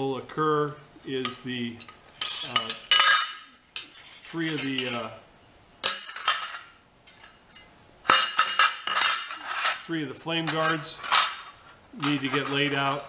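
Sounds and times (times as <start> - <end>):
steel sheets clanking: 1.3 - 5.1, 5.8 - 13.0.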